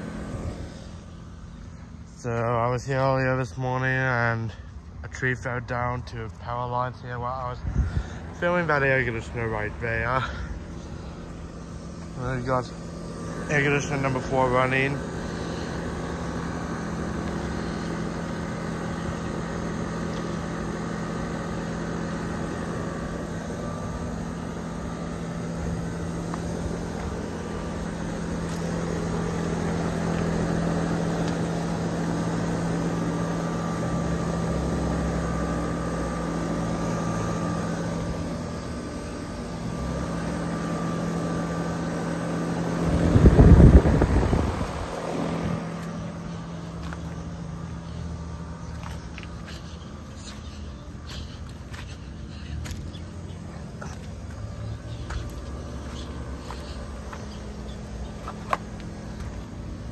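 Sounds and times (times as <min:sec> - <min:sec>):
air conditioner unit humming: 0:00.0 - 0:59.9
condenser fan whirring: 0:00.0 - 0:59.9.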